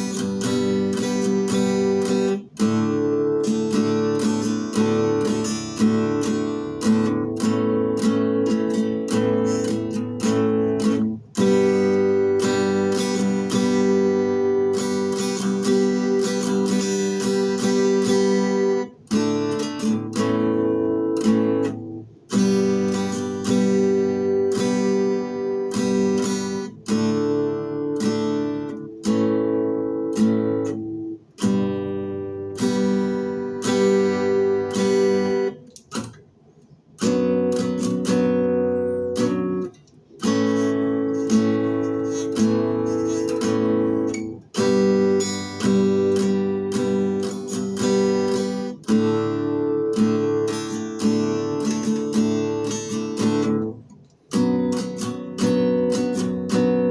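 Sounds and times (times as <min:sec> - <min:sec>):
acoustic guitar strumming chords: 0:00.0 - 0:56.9.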